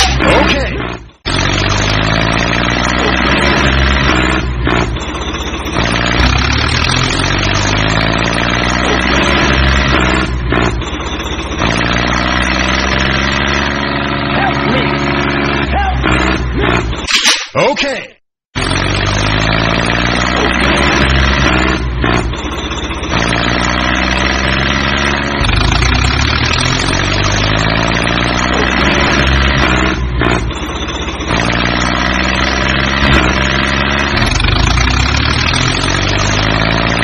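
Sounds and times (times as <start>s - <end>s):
tractor engine running: 0.0s - 17.1s, 18.5s - 37.0s.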